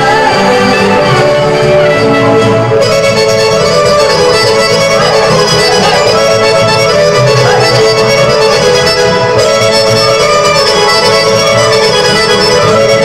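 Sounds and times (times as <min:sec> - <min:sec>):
accordion: 0:00.0 - 0:13.0
folk dance music: 0:00.0 - 0:13.0
violin: 0:00.0 - 0:13.0.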